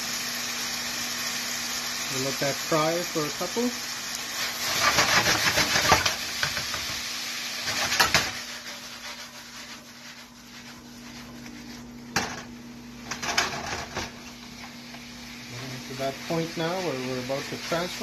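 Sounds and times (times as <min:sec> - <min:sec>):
chicken sizzling in frying pan: 0:00.0 - 0:18.0.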